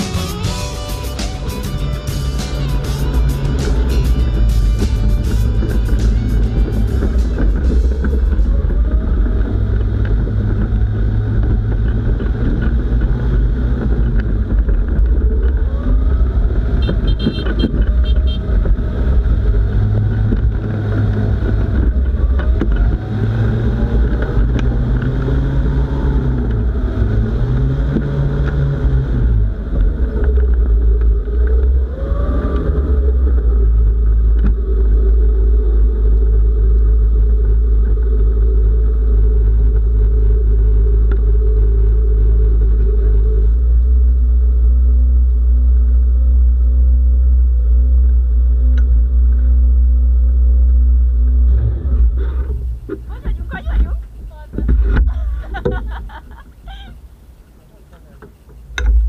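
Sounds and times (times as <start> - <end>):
engine and propeller revving: 0.0 - 56.8.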